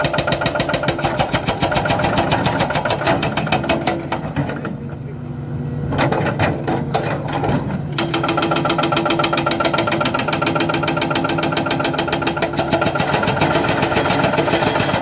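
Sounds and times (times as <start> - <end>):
hydraulic breaker hammering: 0.0 - 4.7, 6.0 - 15.0
excavator engine: 0.0 - 15.0.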